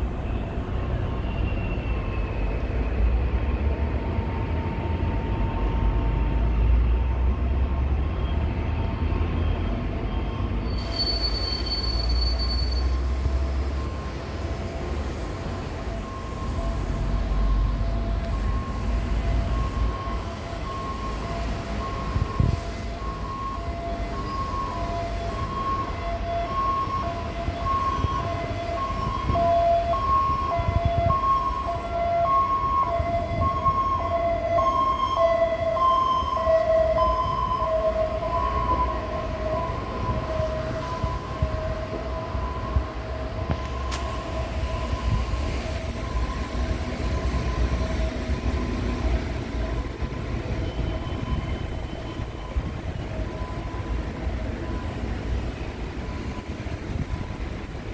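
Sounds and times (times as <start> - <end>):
electric train hum: 2.2 - 12.1, 13.0 - 57.9
two-tone electronic warning bell: 10.0 - 57.6.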